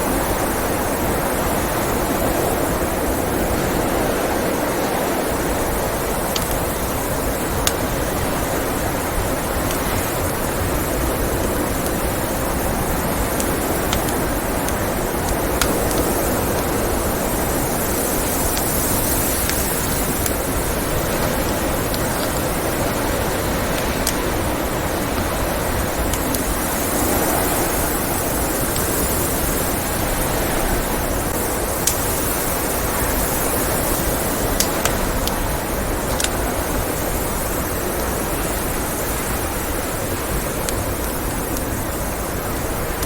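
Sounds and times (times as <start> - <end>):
blizzard wind rushing: 0.0 - 43.0
log fire crackling and popping: 0.1 - 43.0.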